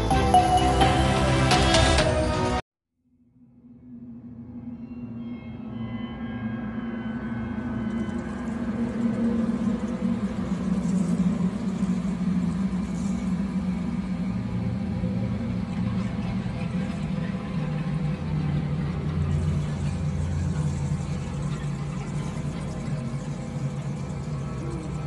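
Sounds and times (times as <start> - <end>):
low rumbling drone: 3.2 - 25.0.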